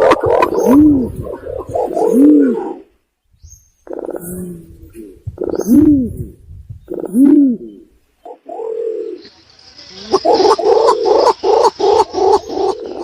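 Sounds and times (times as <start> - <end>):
pigeon cooing: 0.0 - 2.9, 3.9 - 9.2, 10.1 - 13.0.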